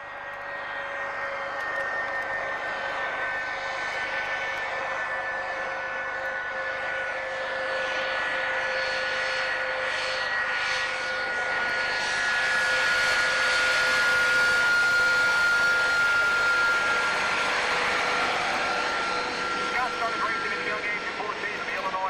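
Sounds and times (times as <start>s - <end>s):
aircraft engine whine: 0.0s - 22.0s.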